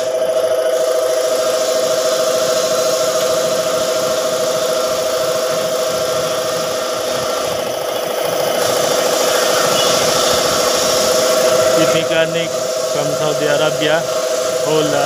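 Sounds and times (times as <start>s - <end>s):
motor humming: 0.0s - 15.0s
even hiss: 0.1s - 15.0s.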